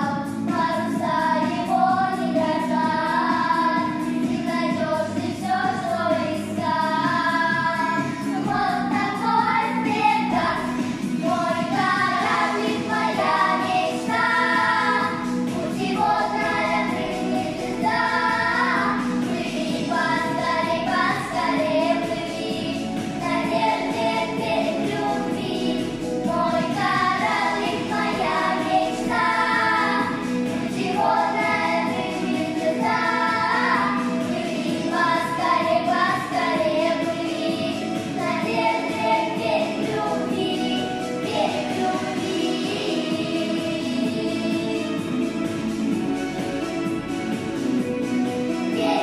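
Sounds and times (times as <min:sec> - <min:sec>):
children singing a pop song: 0:00.0 - 0:49.0
instrumental accompaniment: 0:06.7 - 0:49.0.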